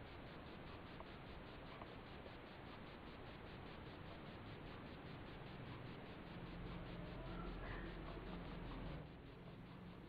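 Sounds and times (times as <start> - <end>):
faint microphone hiss: 0.0 - 10.0.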